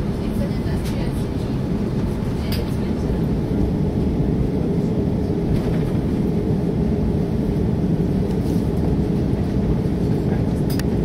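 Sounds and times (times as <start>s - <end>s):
aircraft cabin low rumble: 0.0s - 11.0s.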